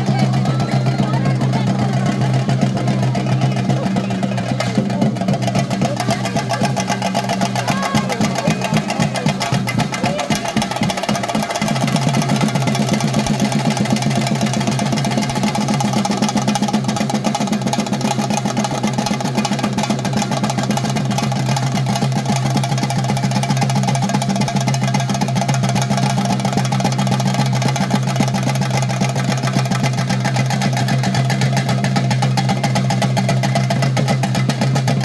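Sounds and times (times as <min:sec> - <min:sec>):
chenda drums played fast: 0:00.0 - 0:35.0.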